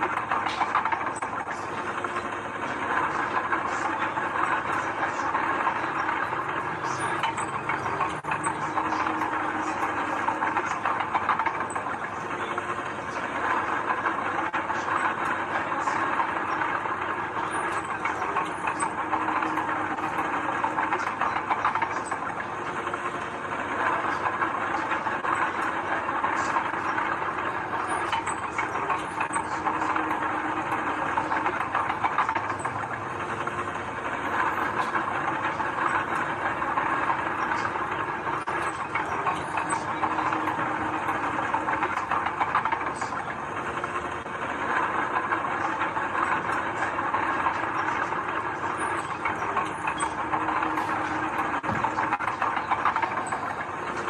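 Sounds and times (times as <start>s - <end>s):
diesel machinery running: 0.0s - 54.0s
metallic clicks and clanks: 0.0s - 54.0s.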